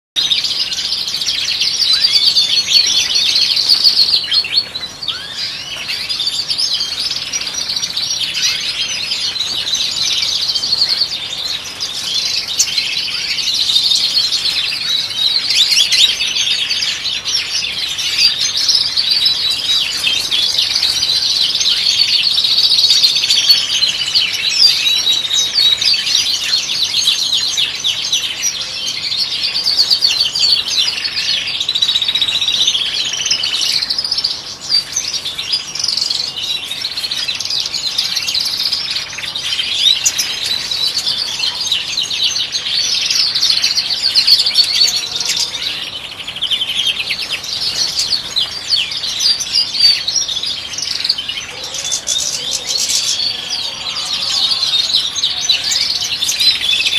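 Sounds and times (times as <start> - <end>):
finches twittering and singing: 0.2 - 56.9.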